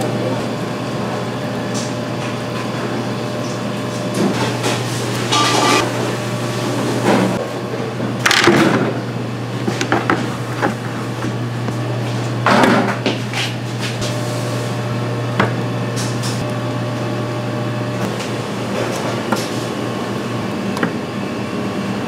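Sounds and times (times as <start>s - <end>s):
kitchen equipment hum: 0.0s - 22.0s.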